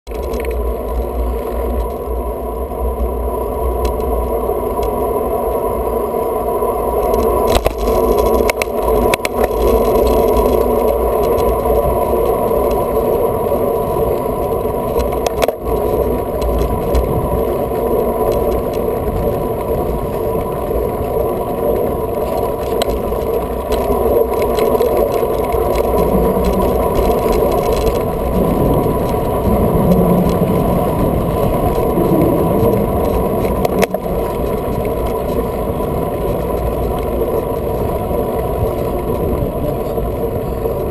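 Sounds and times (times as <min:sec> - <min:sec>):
bicycle road noise: 0:00.0 - 0:40.9
wind noise: 0:00.1 - 0:40.9.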